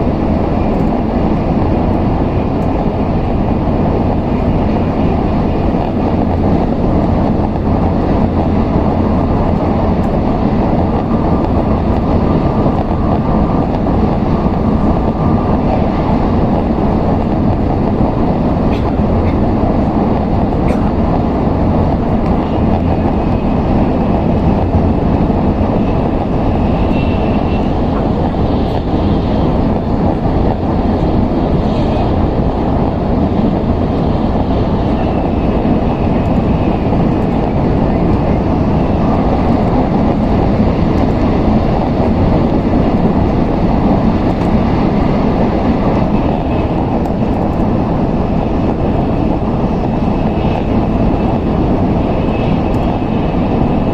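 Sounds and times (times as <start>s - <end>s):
train running noise: 0.0s - 53.9s.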